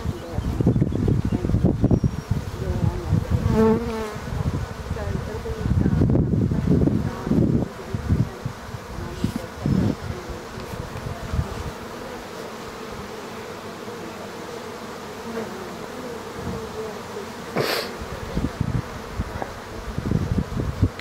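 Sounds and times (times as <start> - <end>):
honey bees buzzing: 0.0 - 21.0.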